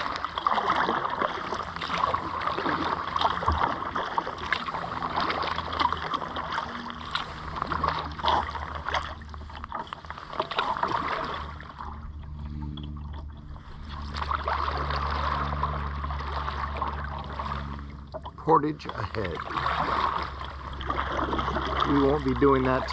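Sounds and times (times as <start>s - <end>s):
low steady hum: 0.0s - 22.9s
paddle splashes: 0.0s - 22.9s
water splashing and trickling: 0.0s - 22.9s.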